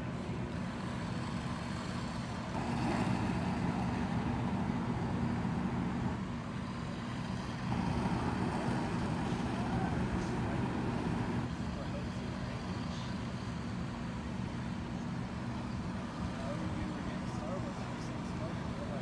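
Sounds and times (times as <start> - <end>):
fire truck engine humming: 0.0 - 19.0.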